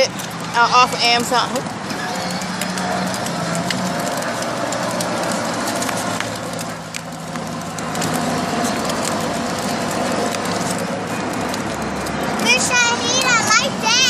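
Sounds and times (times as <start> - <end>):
electric motor hum: 0.0 - 13.2
plastic wheels on pavement: 0.0 - 14.0.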